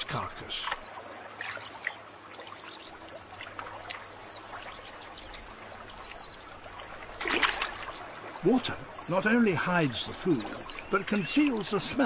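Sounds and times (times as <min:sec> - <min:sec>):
high falling bird calls: 0:00.0 - 0:12.0
water trickling and lapping: 0:00.0 - 0:12.0.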